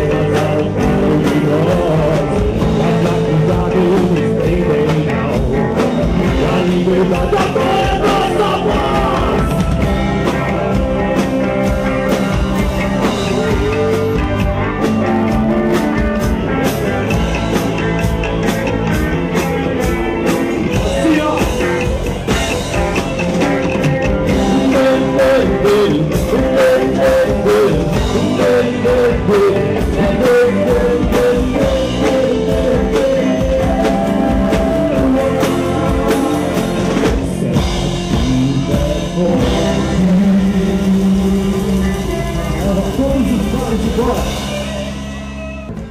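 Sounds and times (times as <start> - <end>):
person singing: 0.0 - 17.5, 18.7 - 45.9
live rock band: 0.0 - 45.9.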